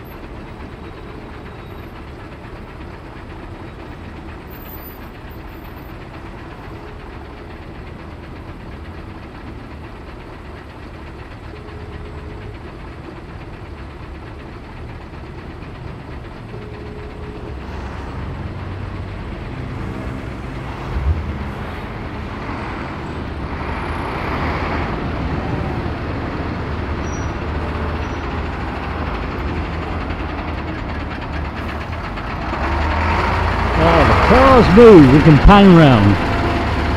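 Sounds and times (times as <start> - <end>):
heavy diesel traffic: 0.0 - 36.9.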